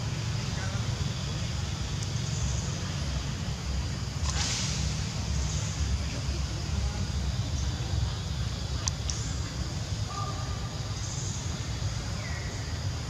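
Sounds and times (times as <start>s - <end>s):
low outdoor rumble: 0.0s - 13.0s
rustling hiss: 0.0s - 13.0s.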